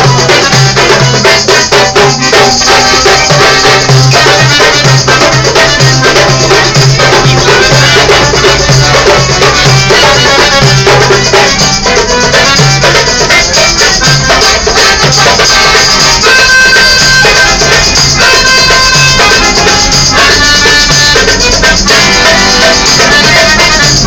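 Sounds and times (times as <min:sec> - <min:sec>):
accordion playing a tune: 0:00.0 - 0:24.0
hand drum beat: 0:00.0 - 0:24.0
rattling percussion: 0:00.0 - 0:24.0.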